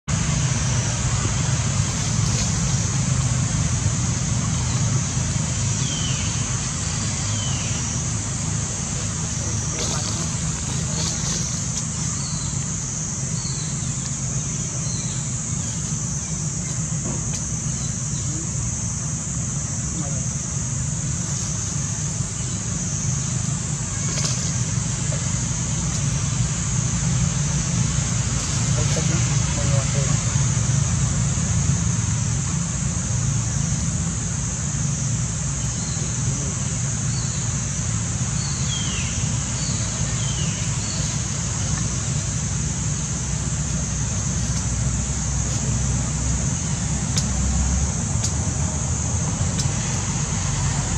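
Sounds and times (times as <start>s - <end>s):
continuous low rumble: 0.0s - 50.9s
high hiss: 0.1s - 50.9s.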